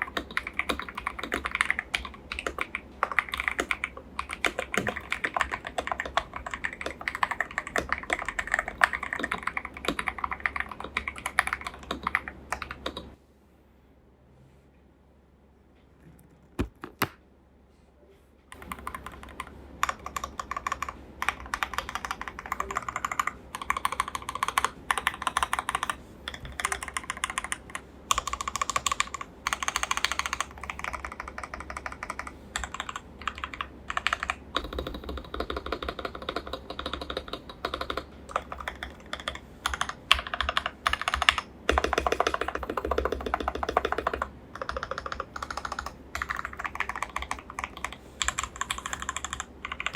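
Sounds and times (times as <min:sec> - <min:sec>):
mechanical keyboard typing: 0:00.0 - 0:13.2, 0:18.6 - 0:49.9.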